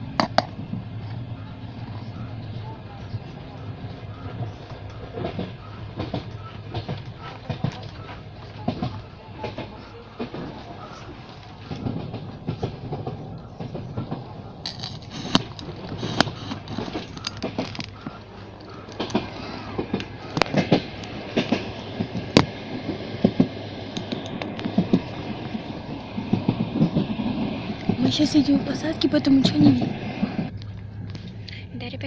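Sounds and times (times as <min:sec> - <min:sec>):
train clicks and knocks: 0:00.0 - 0:32.0
train rumble inside carriage: 0:00.0 - 0:32.0.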